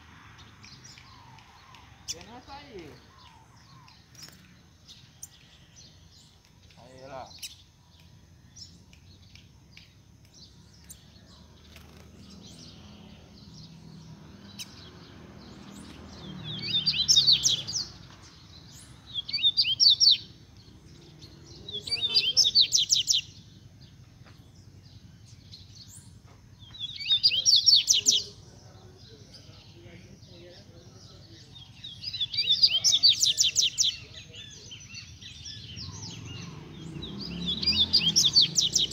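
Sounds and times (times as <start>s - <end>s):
bird chirping: 0.0s - 38.9s
fast high twittering birdsong: 0.0s - 38.9s.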